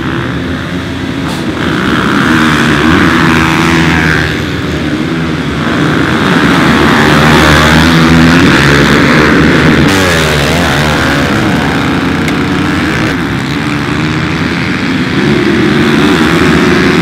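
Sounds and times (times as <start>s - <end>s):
motorbike engines revving: 0.0s - 17.0s.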